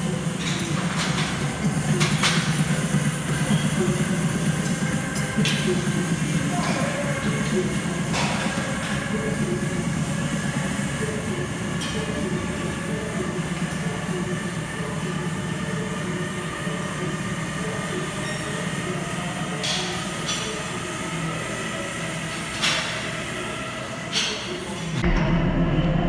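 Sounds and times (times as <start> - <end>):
gym machines and fans drone: 0.0 - 26.0.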